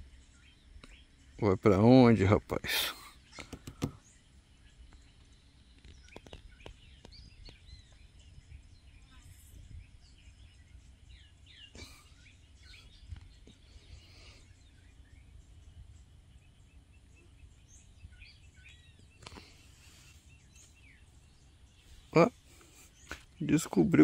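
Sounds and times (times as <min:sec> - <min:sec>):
bird chirps: 0:00.0 - 0:24.0
low background rumble: 0:03.2 - 0:24.0.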